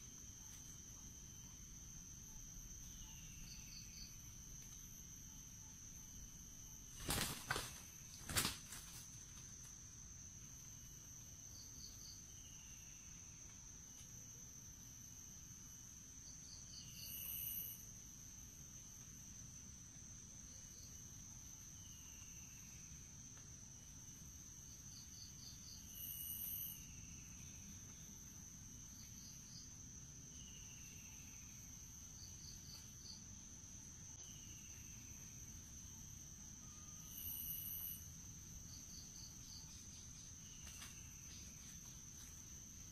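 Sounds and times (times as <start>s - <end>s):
high-pitched insect drone: 0.0s - 13.8s, 14.5s - 19.6s, 20.4s - 42.9s.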